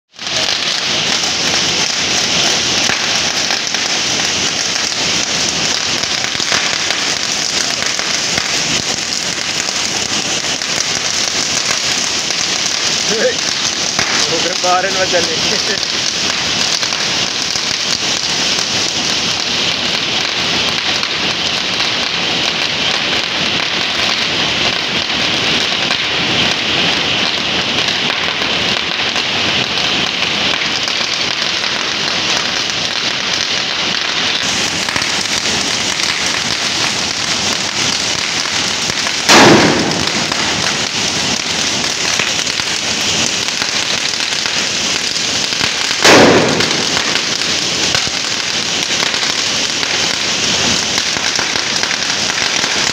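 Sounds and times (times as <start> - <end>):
firecracker string crackling: 0.0 - 52.9
loud firecracker bang: 0.2 - 19.9, 28.0 - 52.9.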